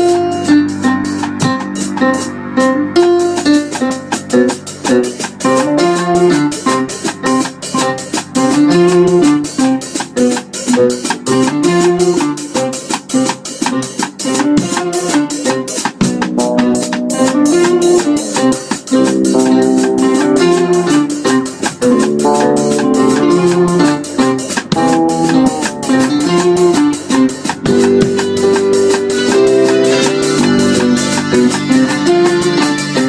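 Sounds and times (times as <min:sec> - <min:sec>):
small band playing instrumental: 0:00.0 - 0:33.0
cymbals ticking: 0:03.0 - 0:33.0.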